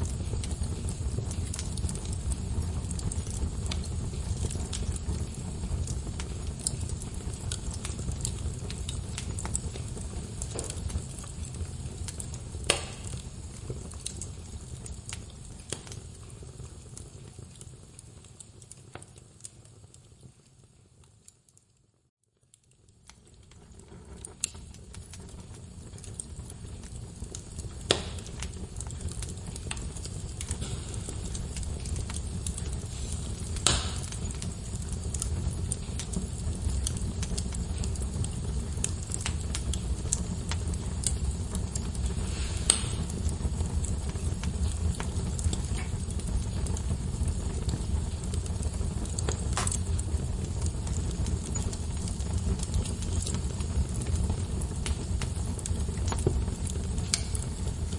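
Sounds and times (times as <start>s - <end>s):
log fire crackling: 0.0s - 57.9s.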